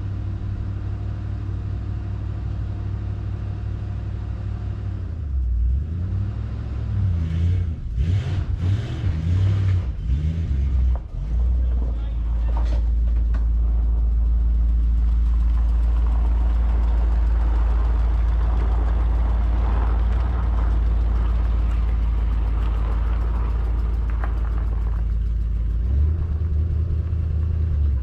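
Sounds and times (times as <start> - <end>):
truck engine idling: 0.0 - 5.7, 9.4 - 28.0
deeper louder engine note: 5.1 - 28.0.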